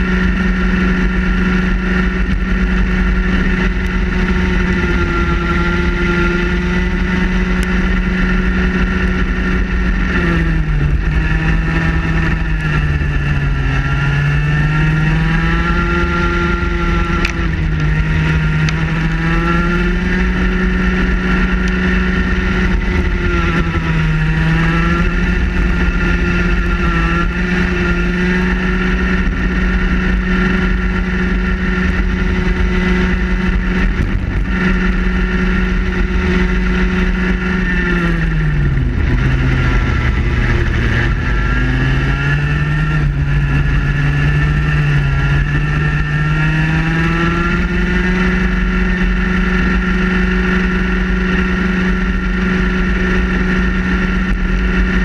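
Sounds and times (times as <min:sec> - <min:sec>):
kart engine at high revs: 0:00.0 - 0:55.0.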